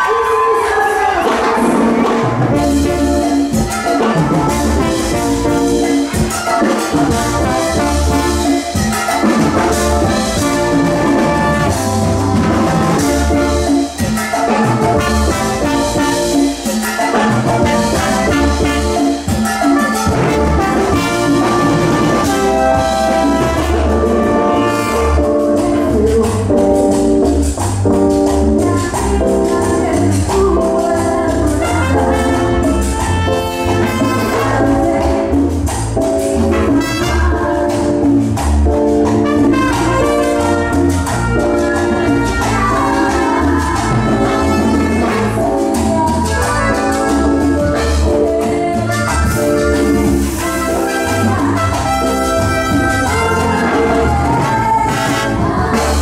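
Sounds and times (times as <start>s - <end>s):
live band playing latin dance music: 0.0s - 56.0s
drums keeping bass beat: 1.1s - 56.0s.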